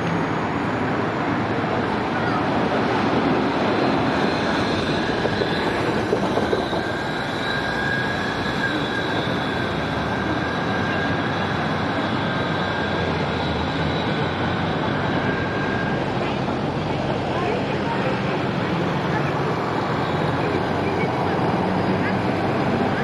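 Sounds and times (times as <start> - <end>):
street traffic noise: 0.0 - 23.0
tram high whine: 0.0 - 23.0.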